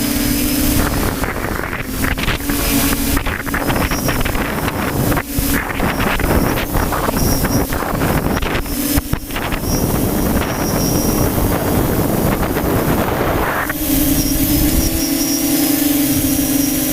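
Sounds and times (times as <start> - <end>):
faint whine: 0.0 - 16.9
wind buffeting microphone: 0.0 - 16.9.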